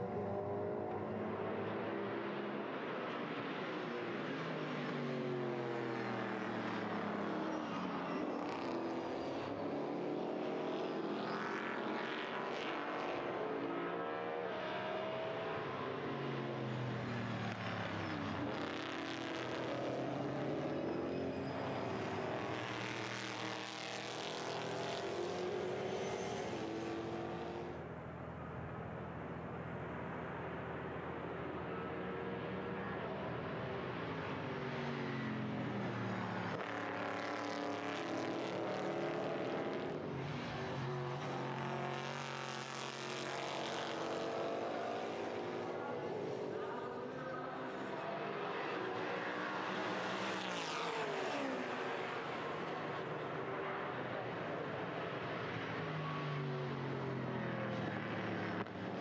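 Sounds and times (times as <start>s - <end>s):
racing car engines revving: 0.0s - 27.9s, 28.5s - 59.0s.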